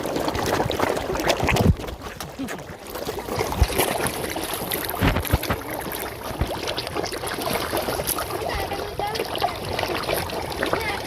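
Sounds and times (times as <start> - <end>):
fish thrashing and splashing: 0.0 - 11.0.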